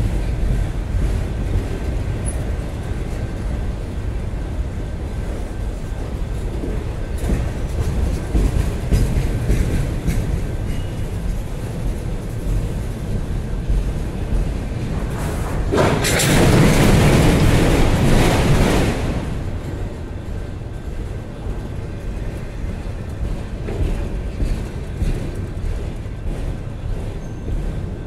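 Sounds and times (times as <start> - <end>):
freight train wheels rumbling on rail: 0.0 - 28.0.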